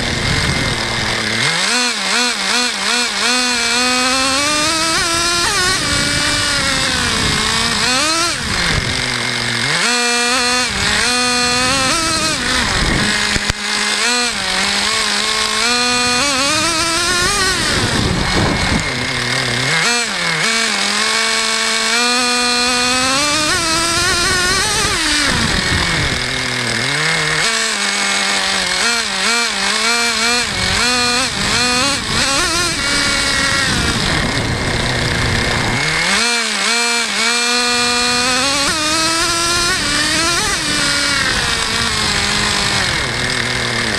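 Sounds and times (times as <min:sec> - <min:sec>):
small nitro engine revving: 0:00.0 - 0:43.9.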